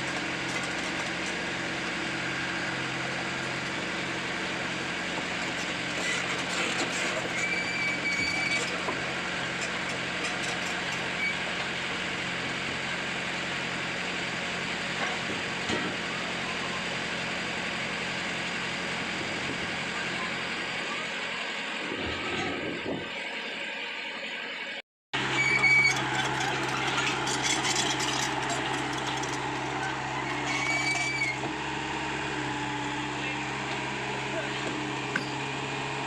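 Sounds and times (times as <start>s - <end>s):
excavator diesel engine running: 0.0s - 24.0s, 25.2s - 36.0s.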